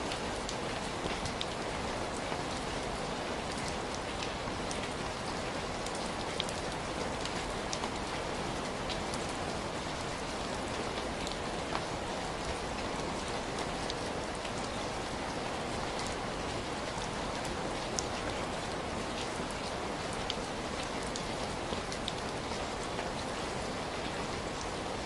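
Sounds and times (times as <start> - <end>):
heavy rain: 0.0 - 25.0
raindrops hitting a surface: 0.0 - 25.0.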